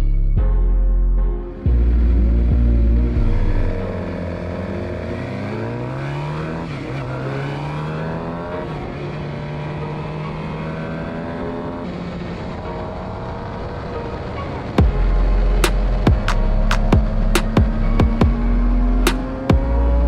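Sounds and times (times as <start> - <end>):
motorcycle engine accelerating: 1.5 - 20.0.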